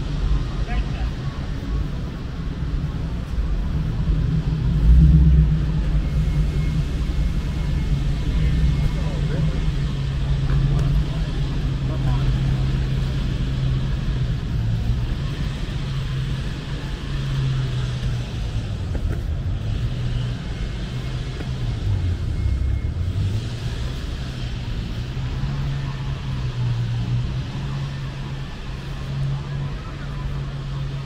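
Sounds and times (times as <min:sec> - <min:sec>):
city street traffic hum: 0:00.0 - 0:31.0.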